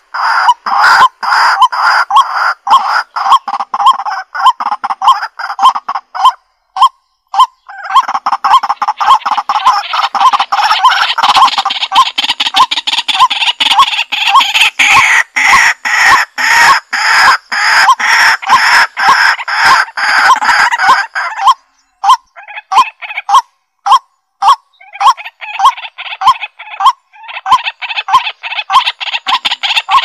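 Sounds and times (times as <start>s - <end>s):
chickens calling: 0.0s - 30.0s.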